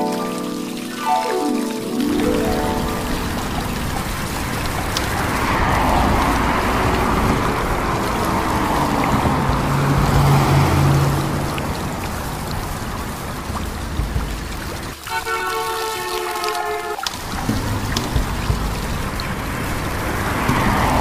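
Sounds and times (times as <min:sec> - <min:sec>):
water spraying from hose: 0:00.0 - 0:21.0.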